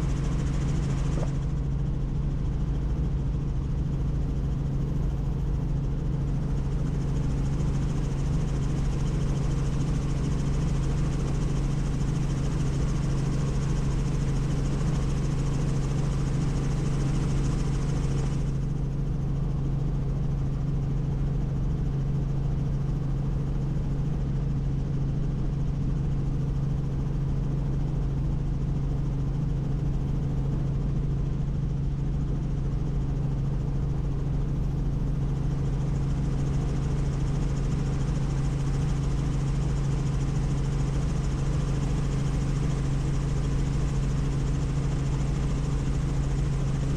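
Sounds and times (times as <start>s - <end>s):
helicopter rotor and engine drone: 0.0s - 46.9s.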